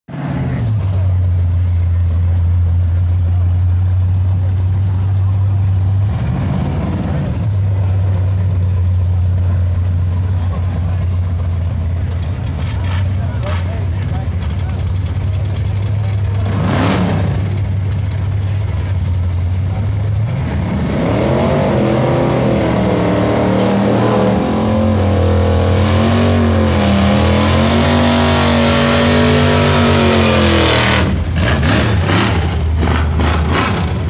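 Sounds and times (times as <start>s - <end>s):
drag race engine roaring: 0.1s - 34.0s.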